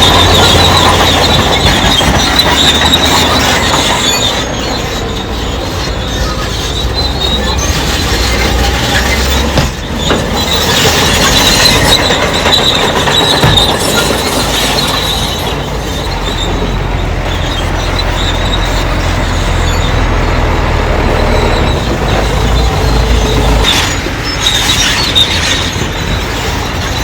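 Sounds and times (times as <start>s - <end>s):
bulldozer diesel engine running: 0.0s - 27.0s
steel tracks squealing: 0.0s - 27.0s.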